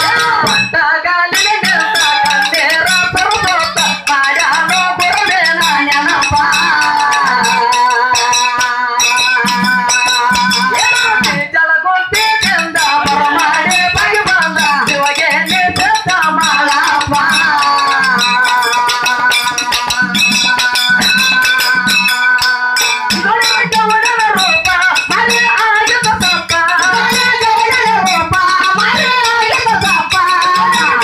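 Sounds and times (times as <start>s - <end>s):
hand drum: 0.0s - 11.4s, 12.2s - 31.0s
voices singing held lines: 0.0s - 31.0s
hand cymbals clashing: 1.4s - 11.4s, 12.4s - 31.0s.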